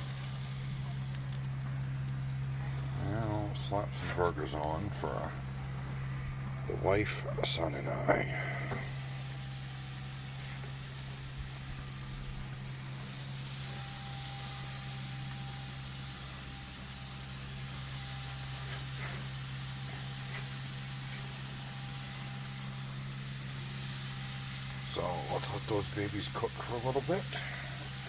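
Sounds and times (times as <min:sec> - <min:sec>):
meat sizzling on a grill: 0:00.0 - 0:28.0.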